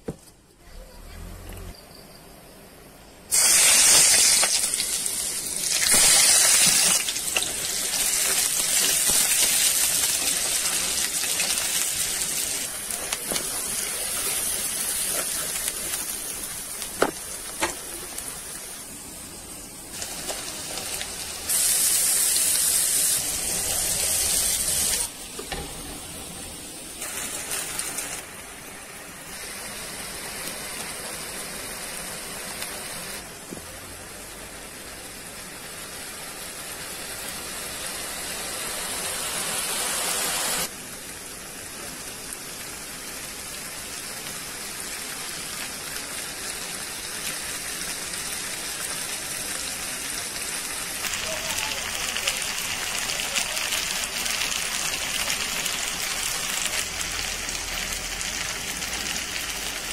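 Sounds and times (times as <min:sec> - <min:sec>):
onions sizzling in hot oil: 0:03.3 - 0:59.9.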